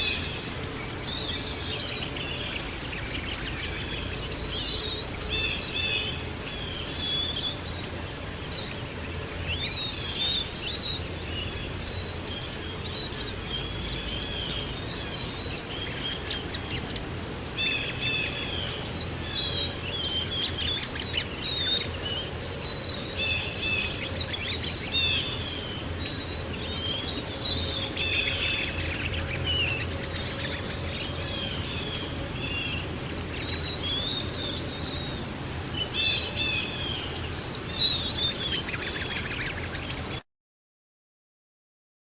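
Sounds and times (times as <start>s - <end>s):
low background noise: 0.0s - 40.2s
songbirds chirping and singing: 0.0s - 40.2s.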